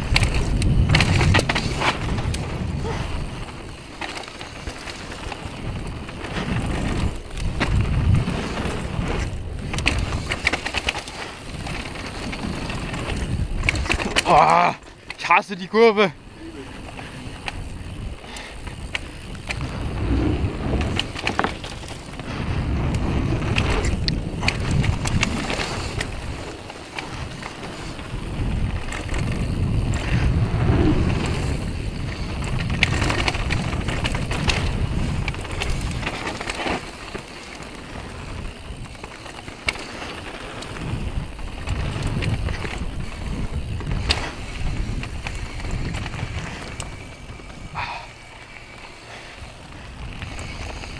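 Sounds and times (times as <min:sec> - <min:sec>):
wind buffeting microphone: 0:00.0 - 0:14.7, 0:16.2 - 0:50.9
bike rattling and knocking: 0:00.0 - 0:50.9
tyres rumbling on dirt: 0:00.0 - 0:50.9.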